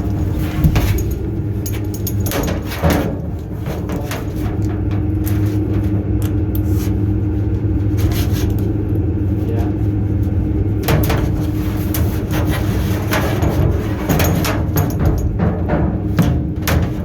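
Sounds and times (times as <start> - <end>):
knocks and scrapes: 0.0 - 6.0, 6.6 - 8.8, 10.9 - 17.0.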